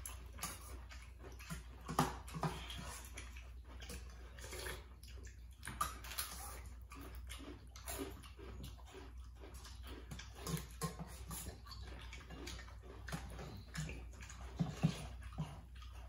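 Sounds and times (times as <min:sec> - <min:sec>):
slurping and chewing noodles: 0:00.0 - 0:16.0.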